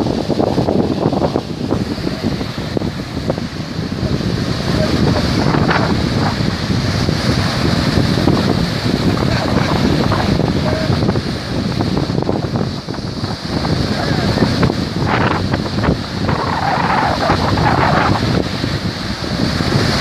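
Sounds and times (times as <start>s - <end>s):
surf waves rushing: 0.0s - 20.0s
wind buffeting microphone: 0.0s - 20.0s.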